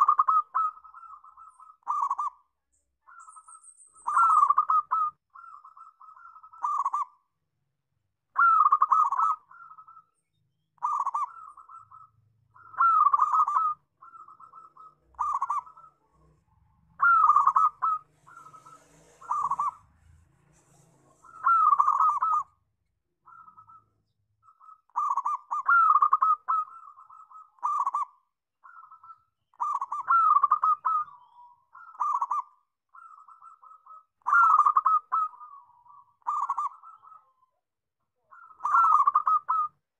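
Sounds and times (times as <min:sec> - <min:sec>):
dove cooing: 0:00.0 - 0:02.5, 0:03.1 - 0:07.2, 0:08.3 - 0:10.1, 0:10.8 - 0:22.6, 0:23.2 - 0:37.6, 0:38.2 - 0:39.8.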